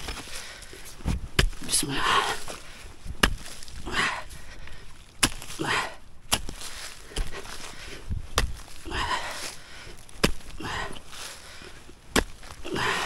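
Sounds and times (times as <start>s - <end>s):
pickaxe striking ground: 0.0s - 2.6s, 3.2s - 4.1s, 5.1s - 11.4s, 12.1s - 13.0s
loose soil scraping and rustling: 0.0s - 13.0s.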